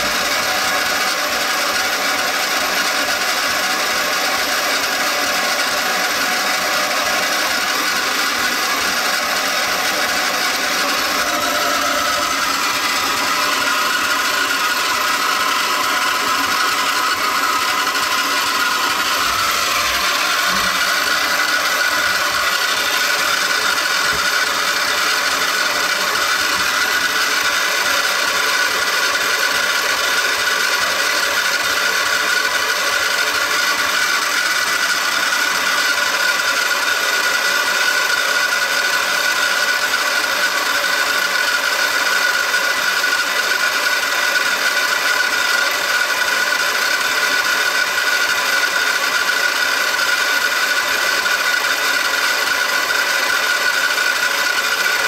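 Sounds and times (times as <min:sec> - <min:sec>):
toy washing machine motor whine: 0:00.0 - 0:55.0.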